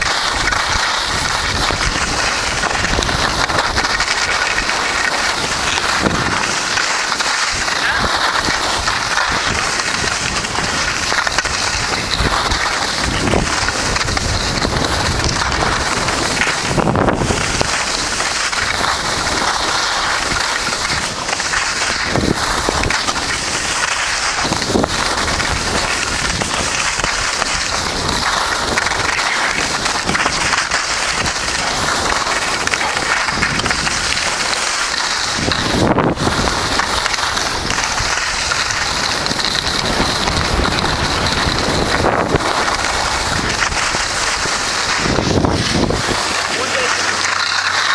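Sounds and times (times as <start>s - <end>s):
wind noise on microphone: 0.0s - 46.8s
skis scraping packed snow: 0.0s - 47.9s.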